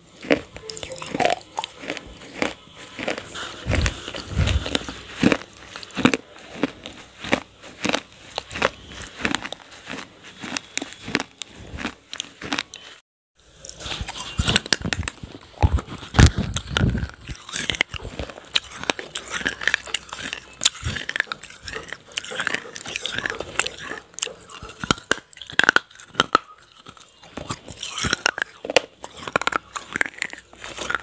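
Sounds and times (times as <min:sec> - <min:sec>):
fingers crushing clay pots: 0:00.0 - 0:12.8, 0:13.7 - 0:31.0
clay being chewed: 0:00.0 - 0:13.0, 0:13.6 - 0:31.0.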